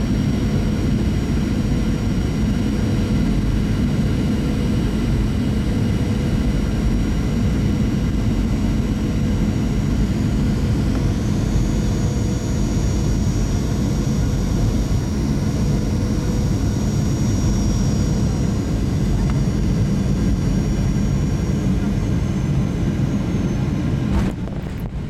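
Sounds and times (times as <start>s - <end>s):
high engine whine: 0.0s - 25.0s
jet engines and airflow rumble: 0.0s - 25.0s.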